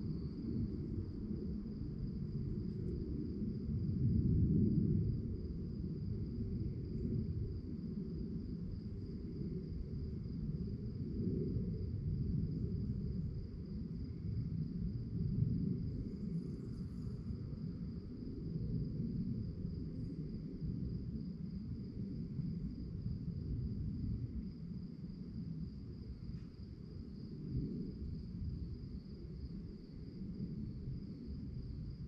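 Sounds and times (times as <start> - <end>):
crickets trilling: 0.0 - 32.0.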